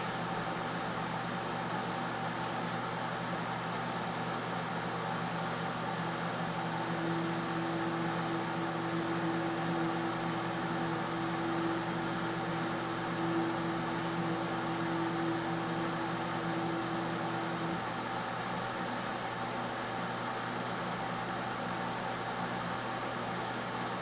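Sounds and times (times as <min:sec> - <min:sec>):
printer fan hum and hiss: 0:00.0 - 0:24.0.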